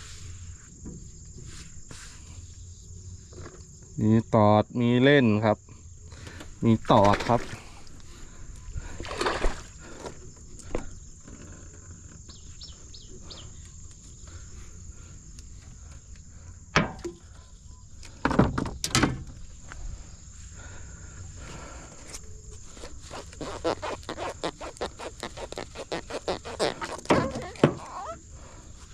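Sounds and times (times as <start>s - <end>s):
insects chorus: 0.0s - 28.9s.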